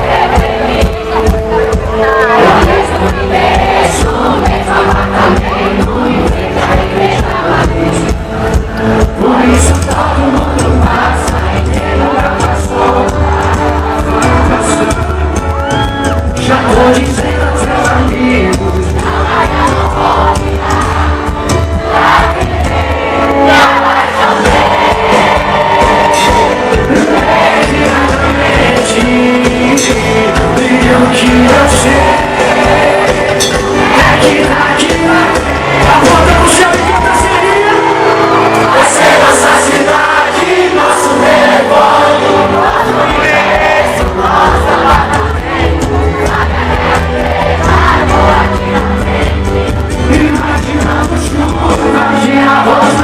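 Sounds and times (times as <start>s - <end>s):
bass: 0.0s - 53.0s
crowd cheering: 0.0s - 53.0s
drums and cymbals: 0.0s - 53.0s
pop concert music over speakers: 0.0s - 53.0s
singing: 0.0s - 53.0s.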